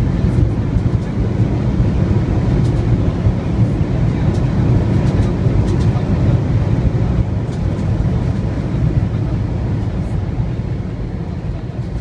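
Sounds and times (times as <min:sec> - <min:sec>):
airliner cabin low rumble: 0:00.0 - 0:12.0.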